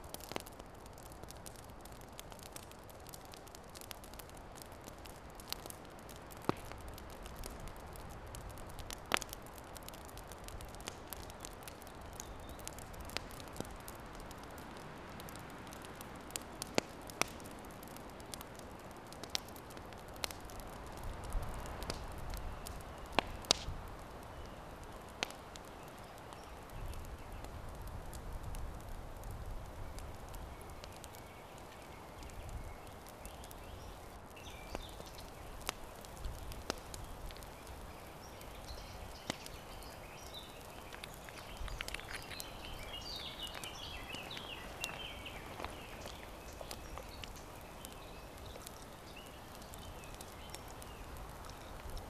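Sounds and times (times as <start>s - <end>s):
campfire embers crackling: 0.0s - 52.0s.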